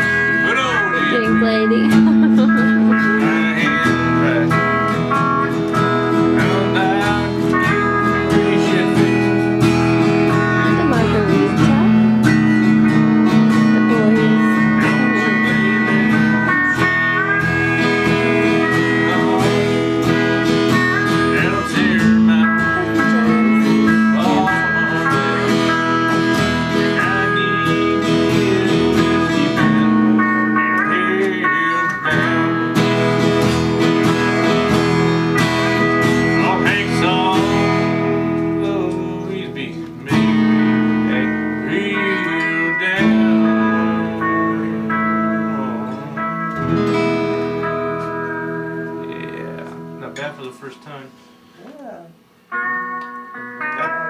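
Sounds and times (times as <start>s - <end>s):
plucked guitar strings: 0.0s - 54.0s
slide guitar long held notes: 0.0s - 54.0s.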